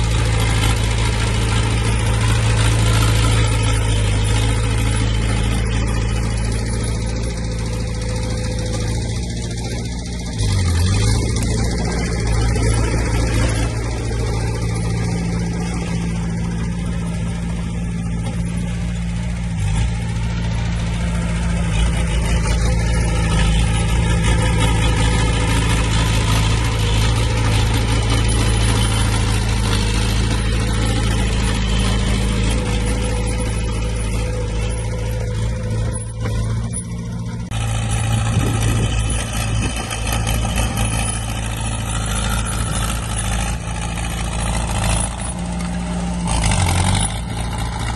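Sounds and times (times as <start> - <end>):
heavy diesel engines running: 0.0 - 47.9.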